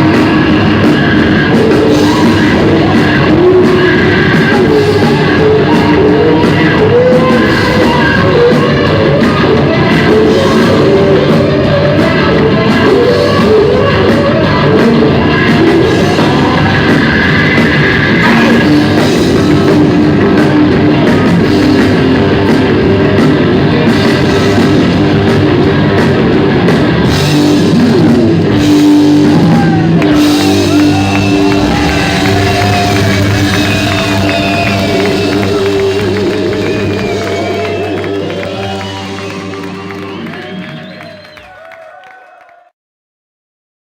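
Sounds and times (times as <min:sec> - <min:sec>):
person singing: 0:00.0 - 0:22.3, 0:28.5 - 0:41.6
rock band playing live: 0:00.0 - 0:41.4
drum kit: 0:00.0 - 0:41.6
electric guitars: 0:00.0 - 0:41.6.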